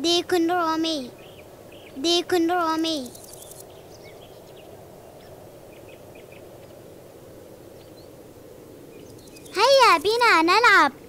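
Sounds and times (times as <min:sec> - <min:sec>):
countryside ambience: 0:00.0 - 0:11.0
faint bird chirps: 0:01.0 - 0:08.2, 0:08.9 - 0:10.8.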